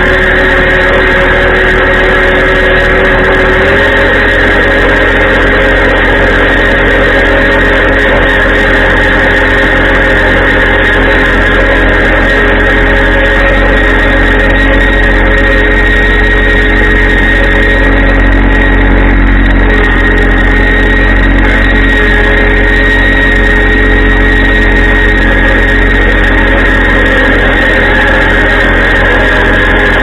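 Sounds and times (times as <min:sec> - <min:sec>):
farm machine engine running: 0:00.0 - 0:30.0.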